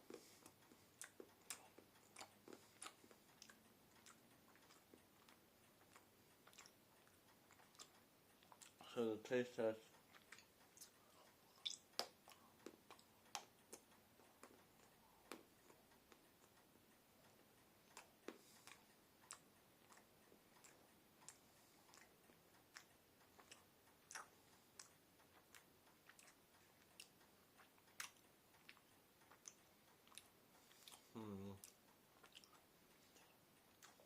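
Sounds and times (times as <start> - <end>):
person chewing: 0.0 - 8.9, 9.9 - 16.6, 17.8 - 34.0.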